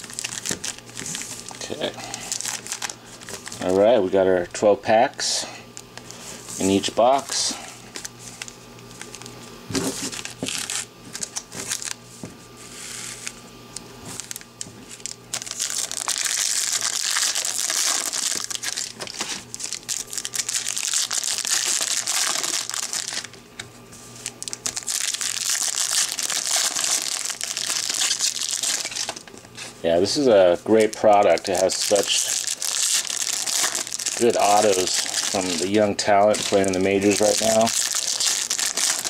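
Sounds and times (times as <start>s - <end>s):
foil packs tearing: 0.0s - 3.8s, 8.4s - 12.0s, 14.1s - 23.4s, 24.2s - 39.0s
wrappers crinkling: 0.0s - 3.8s, 5.8s - 12.0s, 14.1s - 23.4s, 24.1s - 39.0s.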